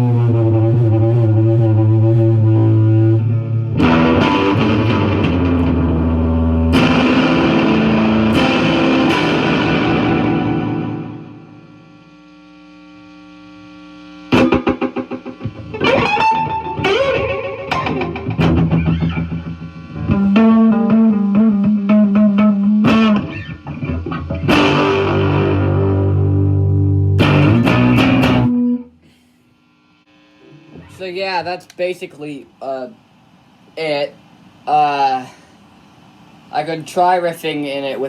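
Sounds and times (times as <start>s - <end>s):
electric guitar with fuzz and delay: 0.0s - 31.2s.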